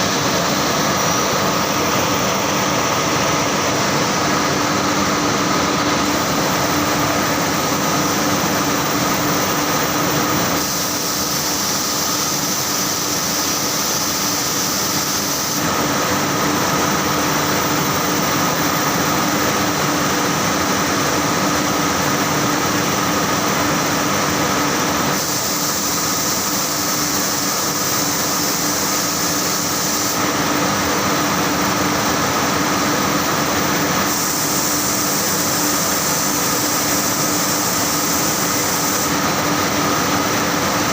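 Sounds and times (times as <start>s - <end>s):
carding machine humming and whirring: 0.0s - 40.9s.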